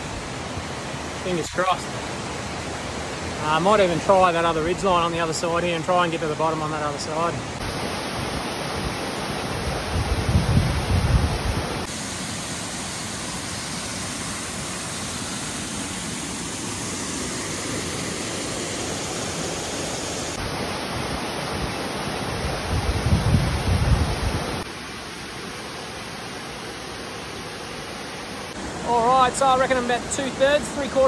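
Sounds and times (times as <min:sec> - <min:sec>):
waterfall rushing over boulders: 0:00.0 - 0:31.0.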